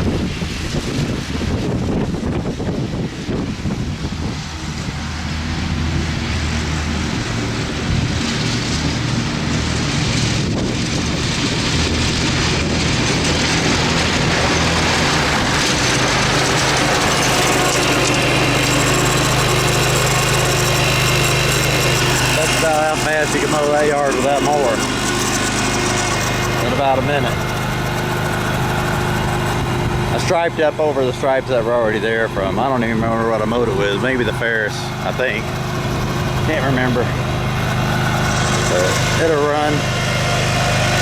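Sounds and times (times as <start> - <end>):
mower engine running: 0.0 - 41.0.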